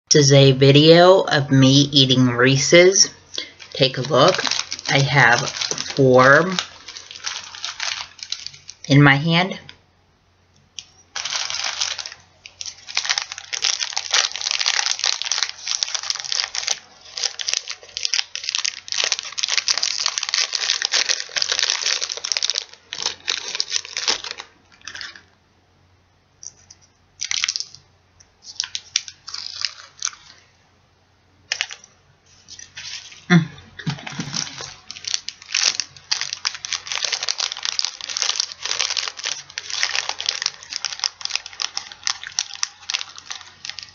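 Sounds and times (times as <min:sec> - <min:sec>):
wrappers crinkling and tearing: 0:02.6 - 0:09.8, 0:10.8 - 0:25.3, 0:26.4 - 0:27.8, 0:28.4 - 0:30.5, 0:31.5 - 0:43.9.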